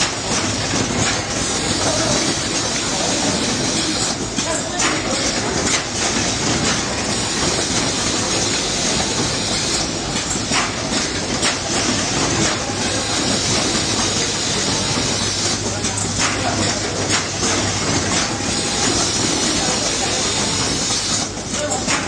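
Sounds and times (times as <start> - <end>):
mechanical clatter of machinery: 0.0 - 22.0.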